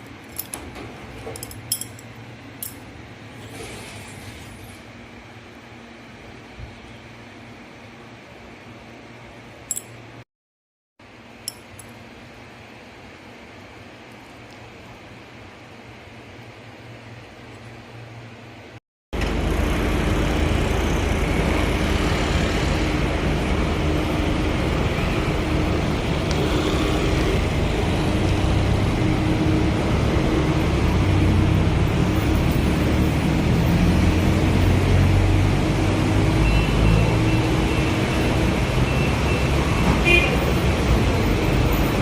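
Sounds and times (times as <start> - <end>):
road traffic with engines running: 0.0 - 10.2, 11.0 - 42.0.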